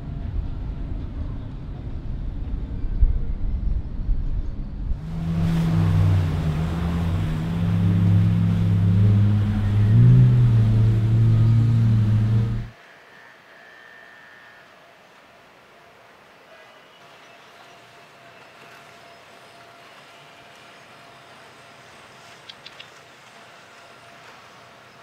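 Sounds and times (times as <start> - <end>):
motorboat engines droning: 5.0 - 25.0.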